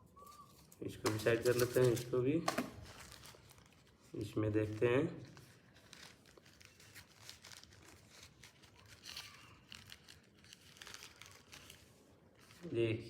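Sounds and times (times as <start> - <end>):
packaging rustling and crinkling: 0.2 - 13.0.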